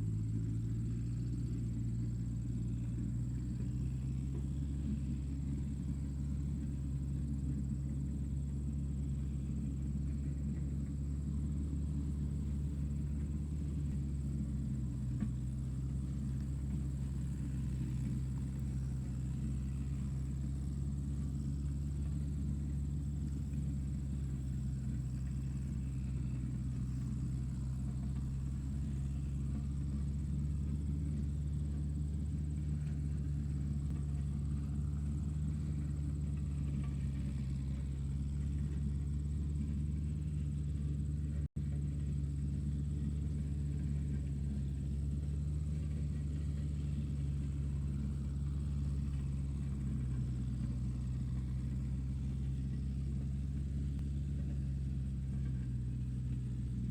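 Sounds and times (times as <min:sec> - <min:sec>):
tractor engine droning: 0:00.0 - 0:56.9.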